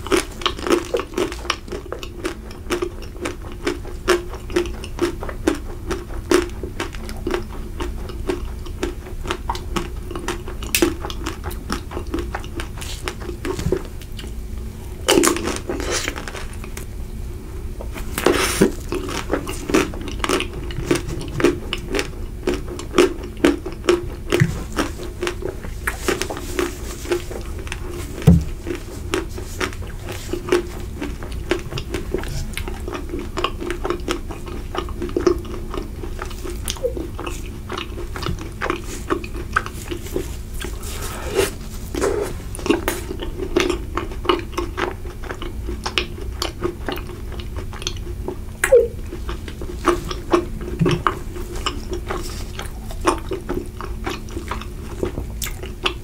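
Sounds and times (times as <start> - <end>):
biting chocolate-coated ice cream: 0.0 - 14.4, 17.9 - 56.0.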